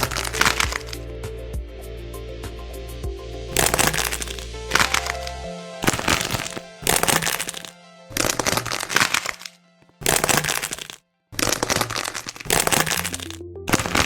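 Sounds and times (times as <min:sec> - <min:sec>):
crisp crackling crunches: 0:00.0 - 0:01.0, 0:03.5 - 0:14.0
quiet background music: 0:00.0 - 0:14.0.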